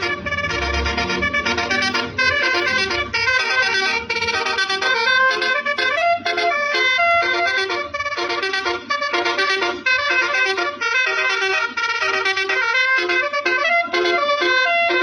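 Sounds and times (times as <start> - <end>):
multi-tone horn playing tune: 0.0 - 15.0.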